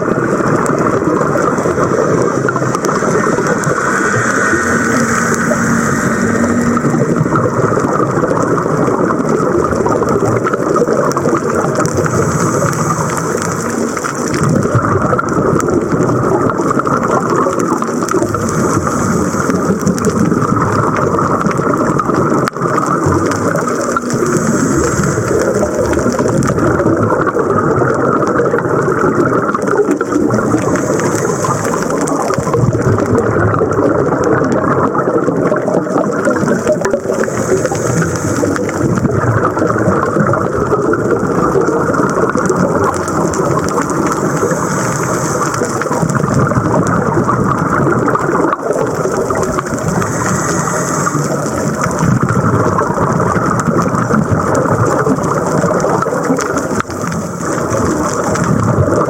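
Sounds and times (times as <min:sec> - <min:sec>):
rushing water heard underwater: 0:00.0 - 0:59.0.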